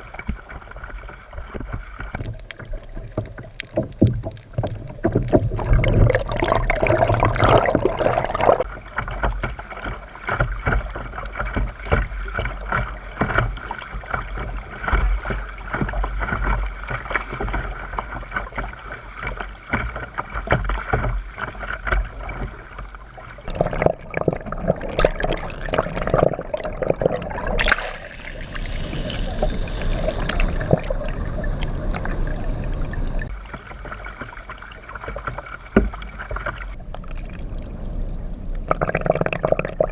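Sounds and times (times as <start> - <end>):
kayak paddle splashing: 0.0 - 37.6.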